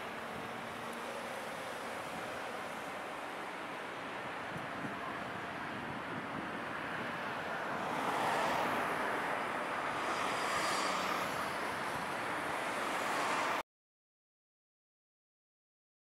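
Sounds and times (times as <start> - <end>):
road traffic passing: 0.0 - 13.6.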